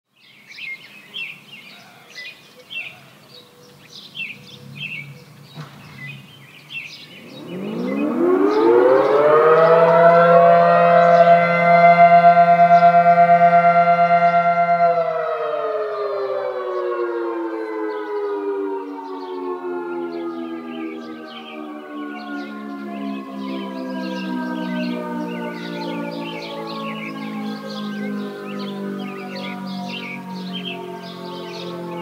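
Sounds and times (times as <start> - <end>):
birds chirping: 0.1 - 32.0
outdoor warning sirens wailing: 2.8 - 32.0.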